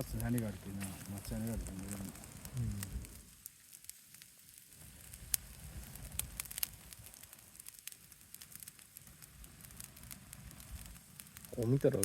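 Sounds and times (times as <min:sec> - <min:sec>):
bonfire flames rumbling: 0:00.0 - 0:12.0
fire crackles and pops: 0:00.0 - 0:12.0.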